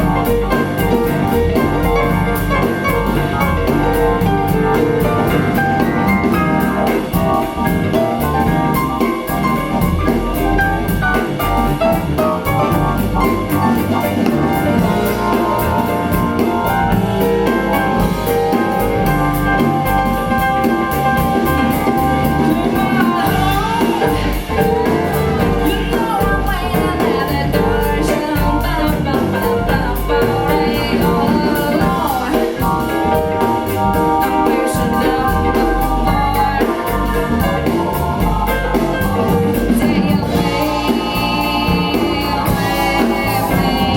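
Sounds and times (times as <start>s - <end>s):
music with drum beat: 0.0s - 43.9s.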